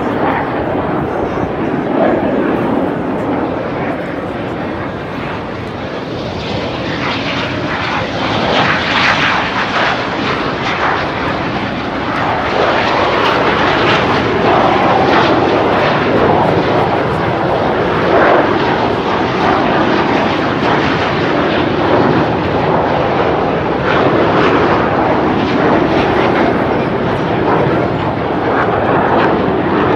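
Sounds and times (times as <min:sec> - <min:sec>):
jets flying past: 0:00.0 - 0:29.9.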